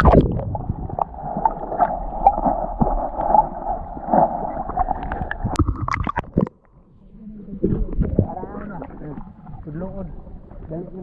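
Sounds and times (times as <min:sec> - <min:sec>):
muffled underwater rushing: 0:00.0 - 0:11.0.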